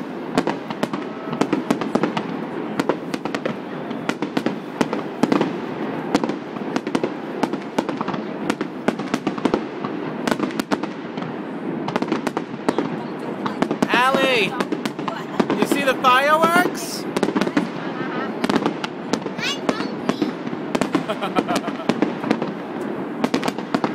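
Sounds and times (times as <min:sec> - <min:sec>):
fireworks bursting bangs: 0:00.0 - 0:23.9.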